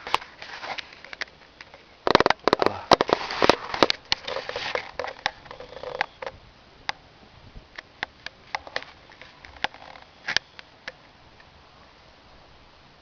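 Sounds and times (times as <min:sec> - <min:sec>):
sharp crackling clicks: 0:00.0 - 0:07.0, 0:07.8 - 0:11.5.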